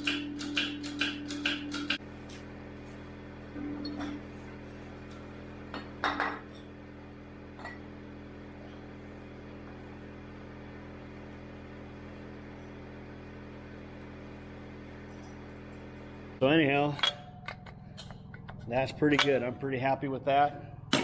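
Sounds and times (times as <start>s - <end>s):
electrical hum: 1.7s - 21.0s.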